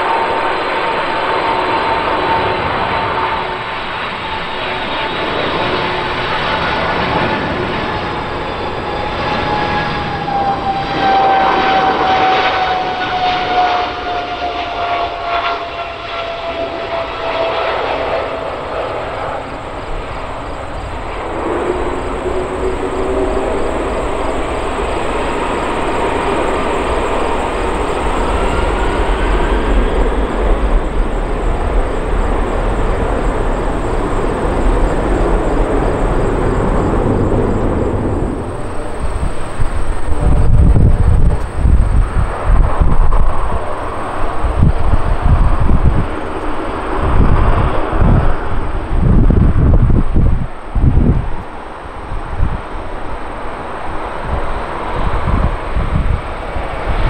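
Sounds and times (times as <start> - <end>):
deep jet engine rumble: 0.0 - 57.0
jet engine whine: 0.0 - 57.0.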